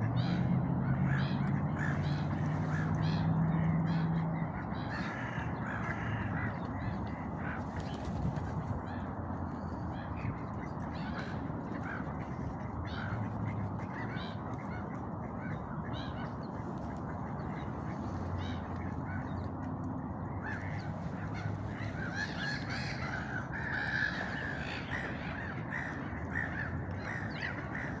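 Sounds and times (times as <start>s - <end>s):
birds calling: 0.0s - 28.0s.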